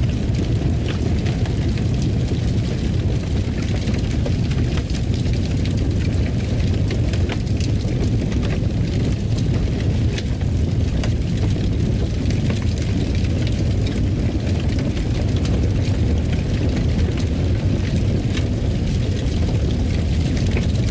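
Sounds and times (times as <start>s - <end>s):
fire pops and snaps: 0.0s - 20.9s
rumble of flames: 0.0s - 20.9s.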